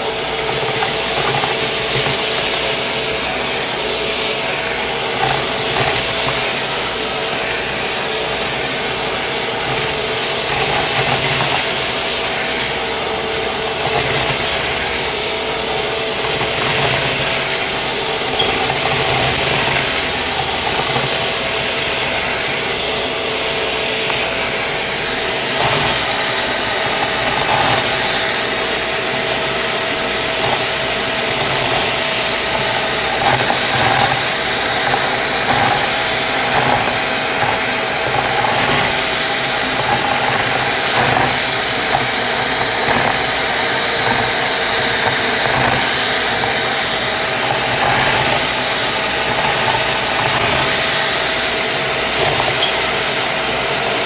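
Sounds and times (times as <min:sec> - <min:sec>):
vacuum cleaner whine: 0:00.0 - 0:54.0.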